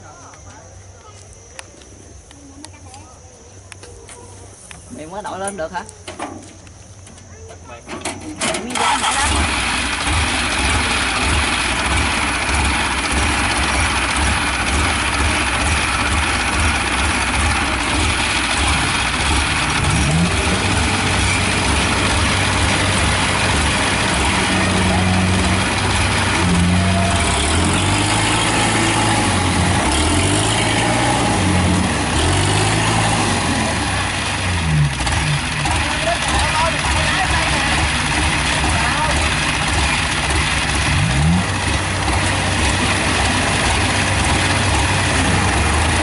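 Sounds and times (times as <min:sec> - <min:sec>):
diesel engine revving under strain: 0:08.4 - 0:46.0.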